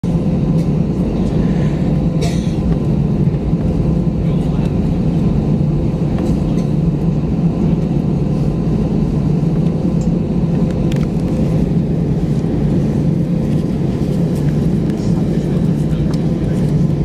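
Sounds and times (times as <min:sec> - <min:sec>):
vehicle low rumble: 0:00.0 - 0:17.0.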